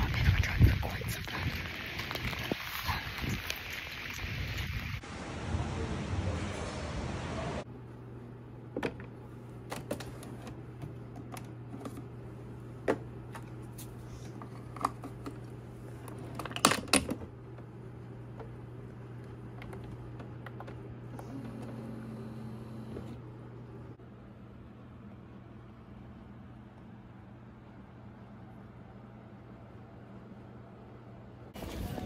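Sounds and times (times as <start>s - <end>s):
low mechanical hum: 0.0s - 32.0s
steady low hum: 0.0s - 32.0s.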